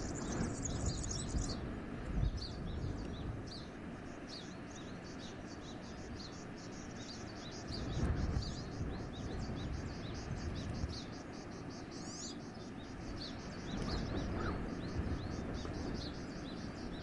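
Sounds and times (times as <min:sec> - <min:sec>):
small birds chirping: 0:00.0 - 0:17.0
wind blowing through forest: 0:00.0 - 0:17.0.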